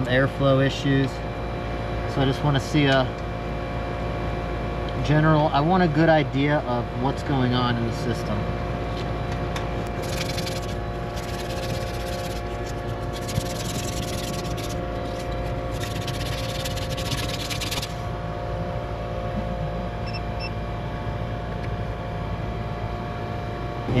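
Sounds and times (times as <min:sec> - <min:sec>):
air conditioner unit humming: 0:00.0 - 0:24.0.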